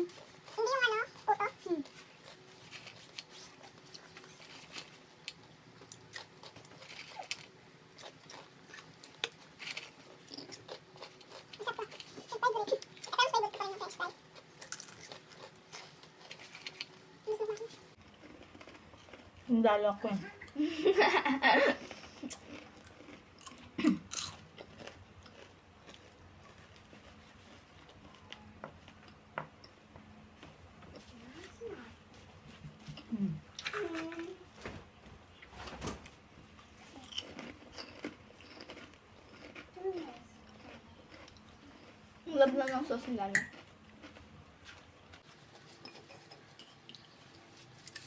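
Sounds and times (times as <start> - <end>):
chewing: 0.0 - 19.5, 21.7 - 31.1, 36.8 - 48.0.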